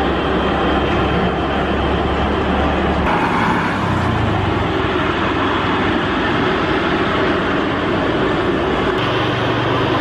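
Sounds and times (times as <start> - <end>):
jet engines running: 0.0 - 10.0.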